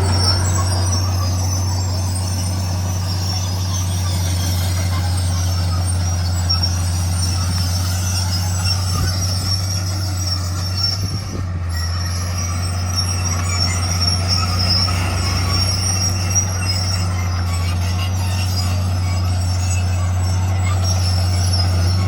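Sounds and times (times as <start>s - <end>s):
bulldozer diesel engine hum: 0.0s - 22.0s
metallic squeal of crawler tracks: 0.0s - 22.0s.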